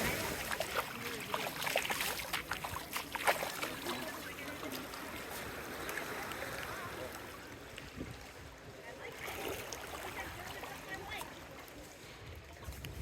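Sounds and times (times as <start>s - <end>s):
seawater lapping and splashing: 0.0s - 13.0s.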